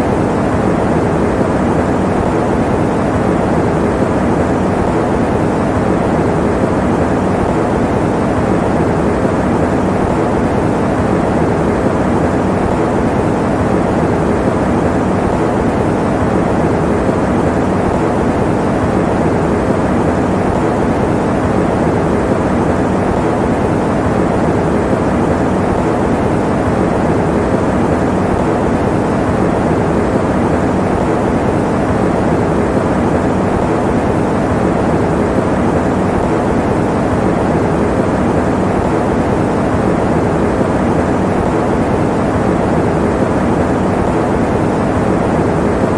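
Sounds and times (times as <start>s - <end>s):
electric fan running: 0.0s - 45.9s.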